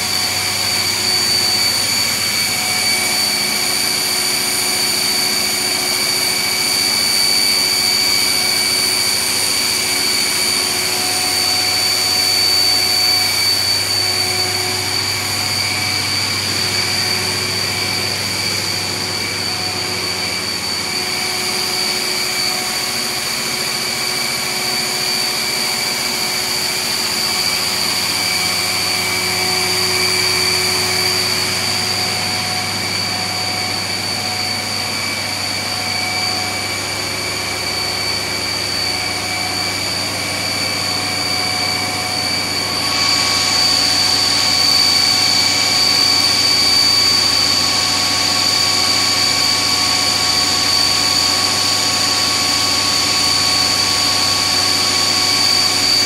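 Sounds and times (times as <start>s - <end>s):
high machine whine: 0.0s - 56.0s.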